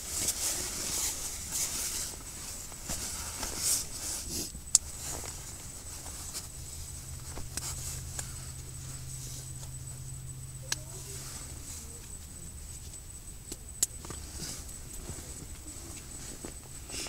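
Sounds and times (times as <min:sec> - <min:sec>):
low steady hum: 0:00.0 - 0:17.0
rustling of bedding and tent fabric: 0:00.0 - 0:17.0.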